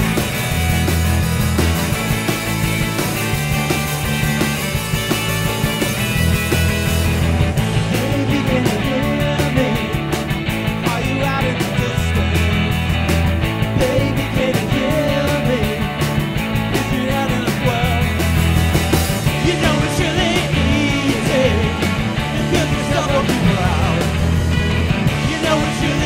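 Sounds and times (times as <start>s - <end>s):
bass line: 0.0s - 26.0s
rock music: 0.0s - 26.0s
steady drum beat: 0.0s - 26.0s.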